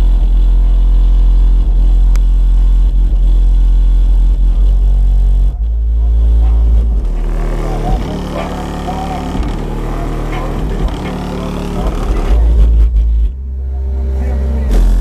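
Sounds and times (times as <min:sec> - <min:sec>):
car subwoofer playing bass music: 0:00.0 - 0:15.0.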